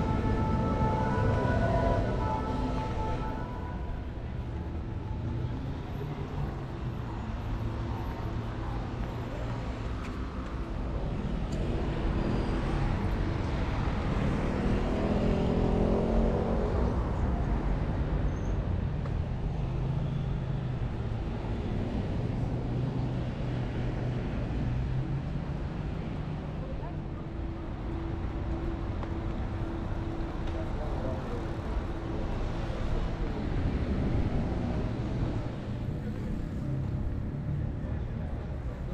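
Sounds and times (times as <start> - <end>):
street traffic hum: 0.0 - 38.9.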